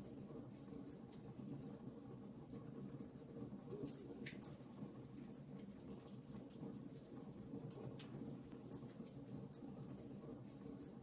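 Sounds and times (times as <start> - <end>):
fire popping and snapping: 0.0 - 11.0.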